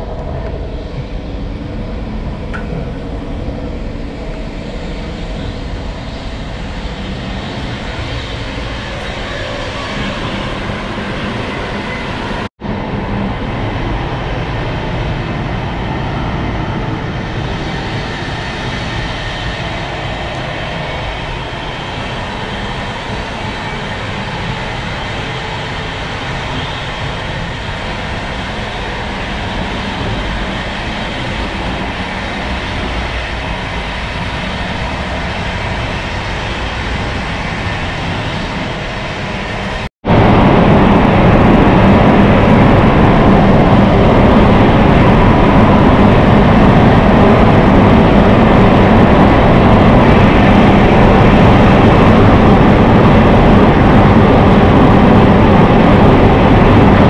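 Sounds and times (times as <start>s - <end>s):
muffled train rumble: 0.0s - 57.0s
train rolling and wind rush: 0.0s - 57.0s.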